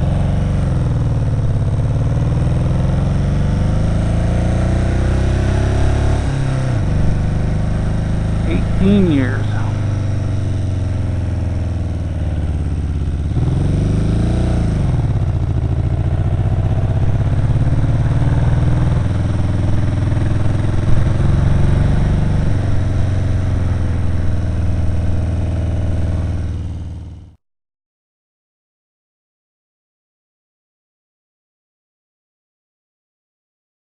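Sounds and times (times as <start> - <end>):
motorcycle engine running: 0.0 - 27.4.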